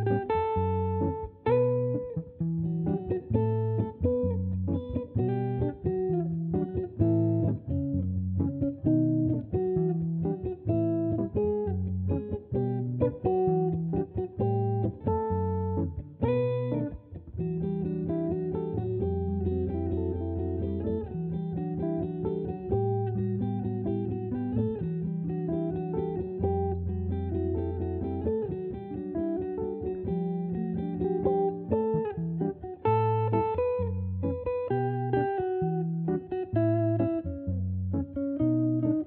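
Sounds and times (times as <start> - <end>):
electric jazz guitar bossa nova: 0.0 - 39.0.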